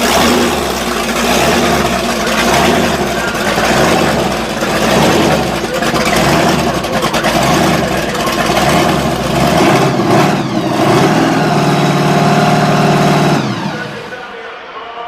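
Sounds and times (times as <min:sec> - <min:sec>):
monster truck engines revving: 0:00.0 - 0:14.6.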